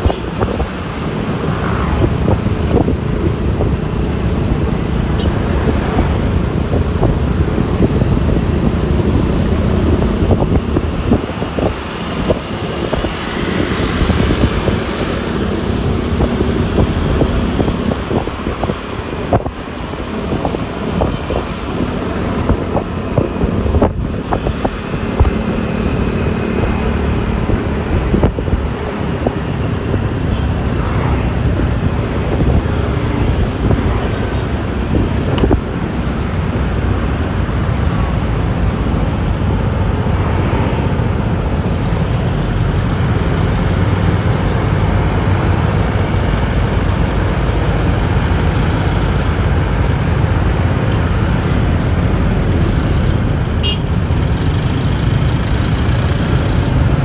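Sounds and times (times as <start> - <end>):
road and traffic noise: 0.0 - 57.0
wind buffeting microphone: 0.0 - 57.0.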